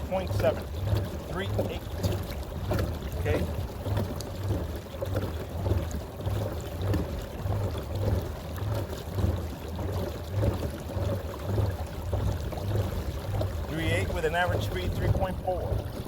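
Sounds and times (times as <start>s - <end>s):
water rushing along kayak hull: 0.0s - 16.0s.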